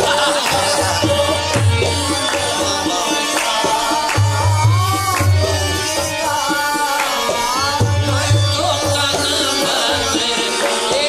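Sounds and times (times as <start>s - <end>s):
tabla drumming: 0.0s - 11.0s.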